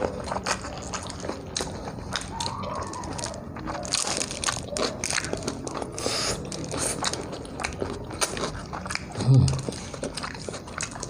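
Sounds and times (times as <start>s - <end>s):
crunchy clicks and smacks: 0.0s - 11.0s
food being bitten and chewed: 0.0s - 11.0s.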